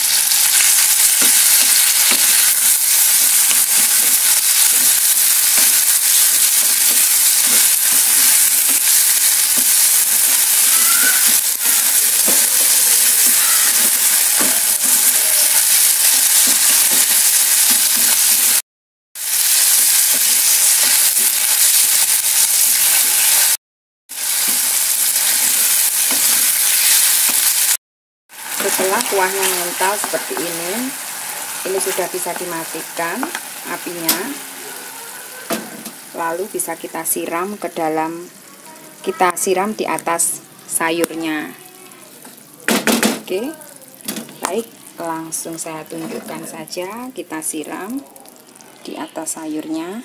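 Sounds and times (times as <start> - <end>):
meat sizzling in hot oil: 0.0 - 18.6, 19.2 - 41.9, 43.4 - 49.5.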